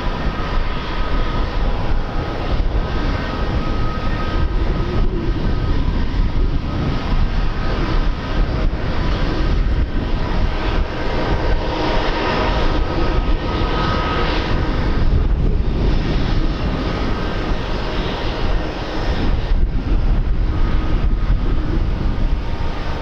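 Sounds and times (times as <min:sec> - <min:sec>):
airliner engines running: 0:00.0 - 0:23.0
faint whine: 0:00.0 - 0:23.0
wind buffeting microphone: 0:00.0 - 0:23.0.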